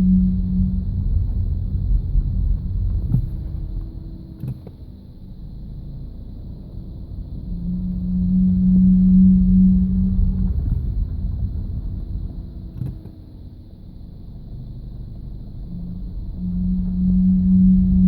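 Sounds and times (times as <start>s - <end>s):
low drivetrain groan: 0.0s - 4.8s, 6.7s - 13.8s, 15.0s - 18.0s
diesel engine rumble: 0.0s - 18.0s.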